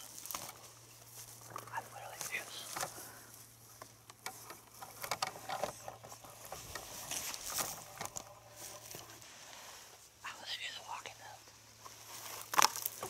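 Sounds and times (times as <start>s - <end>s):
rustling and crackling: 0.0s - 10.2s, 11.1s - 13.0s.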